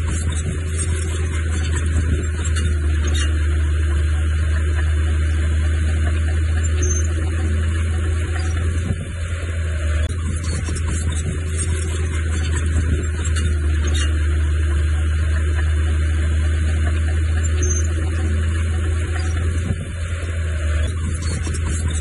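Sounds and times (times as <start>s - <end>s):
diesel engine of heavy machinery: 0.0s - 22.0s.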